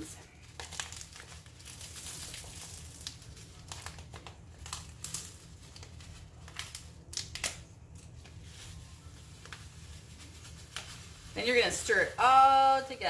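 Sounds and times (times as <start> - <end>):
plastic packets crinkling: 0.0 - 11.9.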